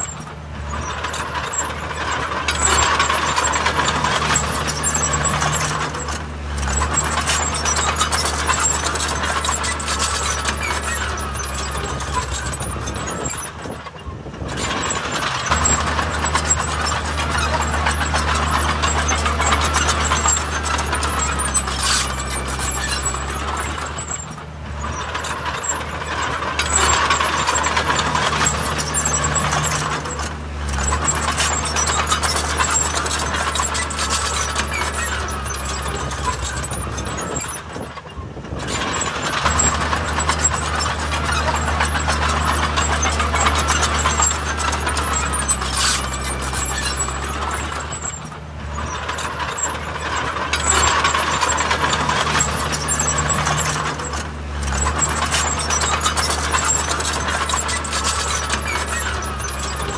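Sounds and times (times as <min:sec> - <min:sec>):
diesel engine drone: 0:00.0 - 0:59.9
loud broad machinery noise: 0:00.0 - 0:59.9.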